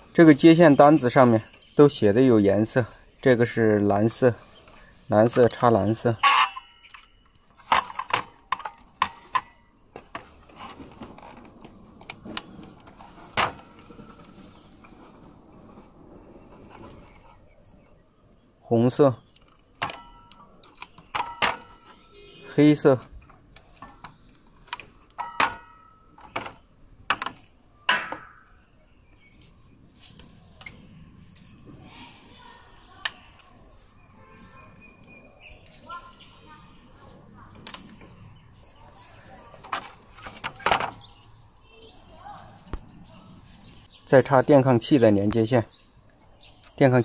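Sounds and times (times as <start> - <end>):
wires rustling: 4.0 - 44.1.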